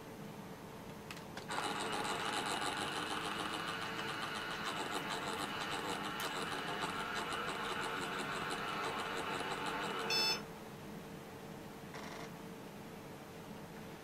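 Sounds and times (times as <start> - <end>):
laptop cooling fan whirring: 0.0 - 11.7.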